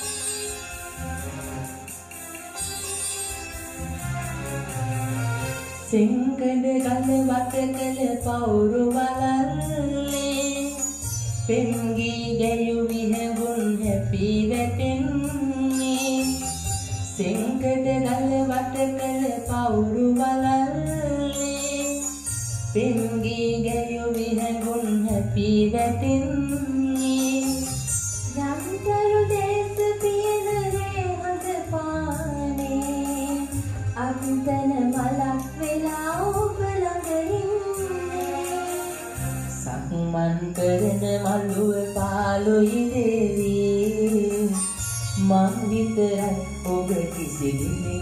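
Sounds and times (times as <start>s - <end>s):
woman singing: 5.6s - 48.0s.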